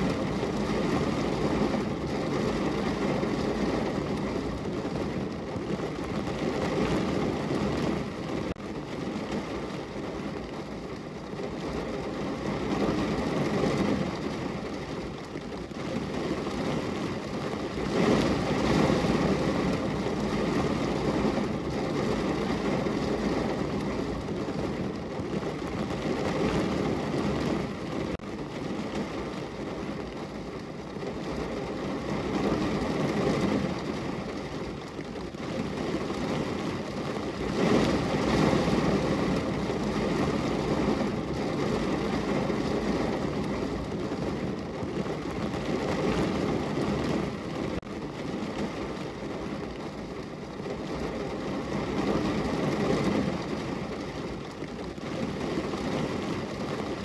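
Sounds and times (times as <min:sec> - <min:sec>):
rain falling on a window: 0:00.0 - 0:57.0.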